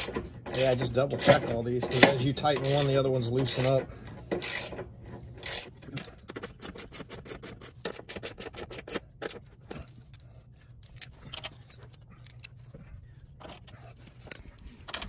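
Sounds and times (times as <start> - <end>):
hand ratchet clicking: 0.0 - 12.6.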